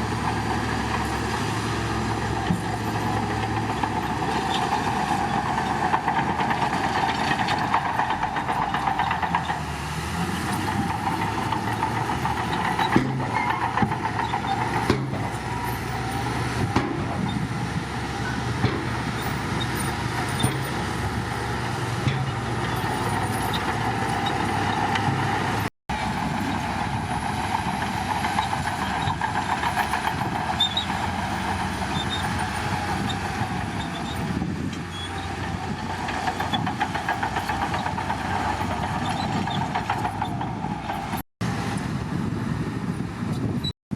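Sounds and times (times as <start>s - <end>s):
track clanks: 0.0s - 41.2s
bulldozer diesel engine drone: 0.0s - 43.7s.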